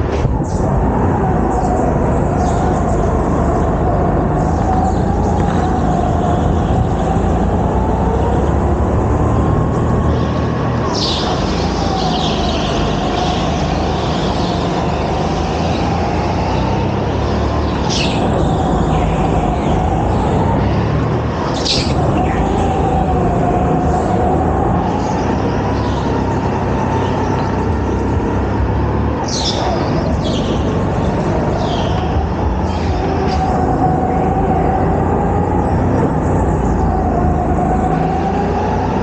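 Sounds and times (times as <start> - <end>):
go-kart engine rumble: 0.0 - 39.0
high-pitched tyre squeals: 0.0 - 39.0.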